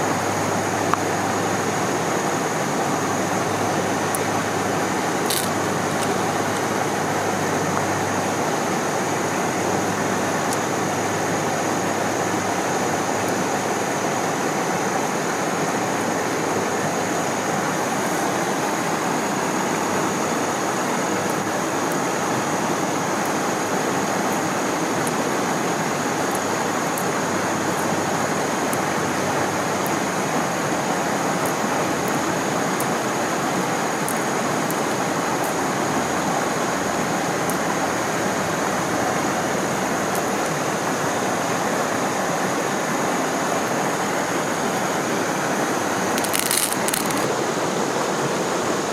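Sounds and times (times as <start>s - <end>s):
waterfall stream rushing: 0.0s - 48.9s.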